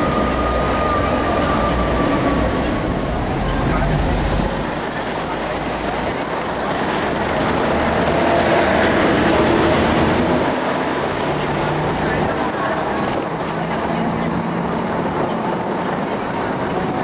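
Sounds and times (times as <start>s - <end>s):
electric tram running on tracks: 0.0s - 17.0s.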